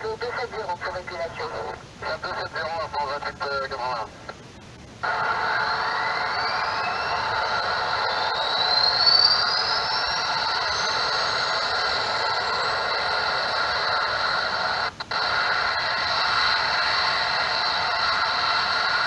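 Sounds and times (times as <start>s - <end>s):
jet turbine whine: 0.0s - 19.0s.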